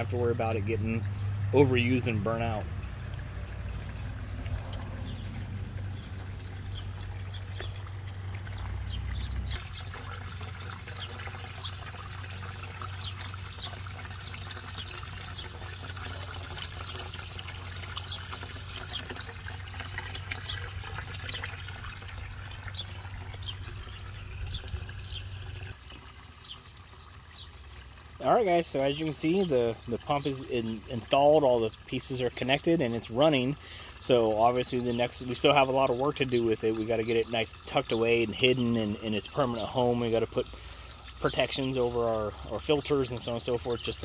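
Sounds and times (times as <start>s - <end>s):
low pump hum: 0.0s - 44.0s
water splashing into pond: 0.0s - 44.0s.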